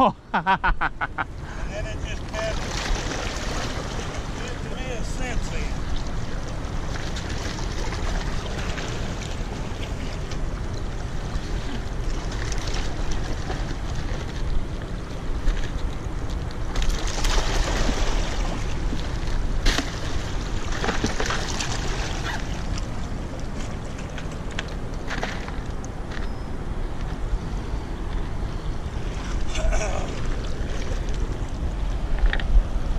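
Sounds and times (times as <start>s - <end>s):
rushing water: 1.6s - 25.0s, 28.8s - 32.9s.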